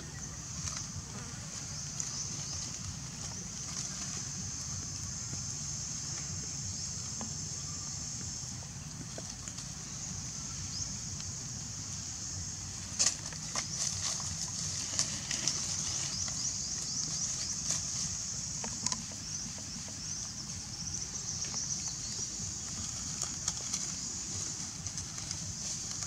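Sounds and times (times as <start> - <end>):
dry leaves rustling: 0.0 - 26.0
insects chorus: 0.0 - 26.0.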